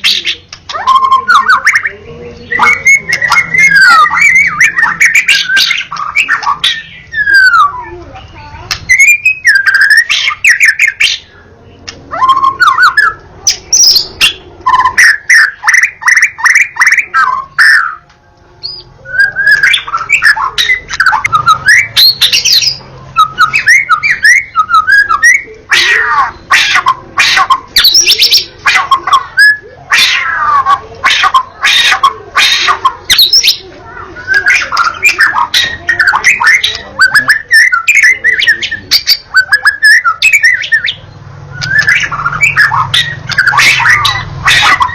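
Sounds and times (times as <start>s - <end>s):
songbird singing whistled phrases: 0.0s - 11.4s, 12.1s - 18.0s, 18.6s - 44.9s.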